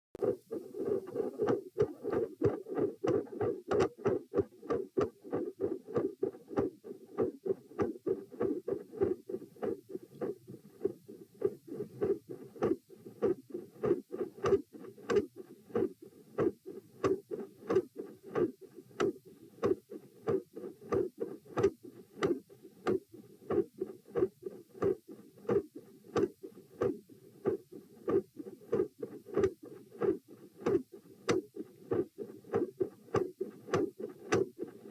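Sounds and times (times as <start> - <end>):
sharp click at each beat: 0.2 - 10.2, 11.4 - 34.9
doppler heartbeat pulsing: 0.2 - 34.9.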